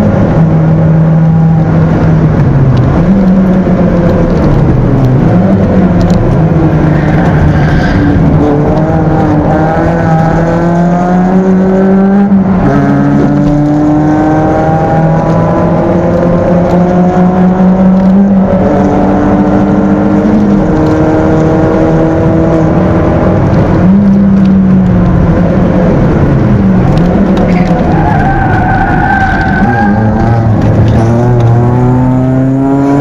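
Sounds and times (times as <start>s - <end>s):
car engine accelerating hard: 0.0s - 33.0s.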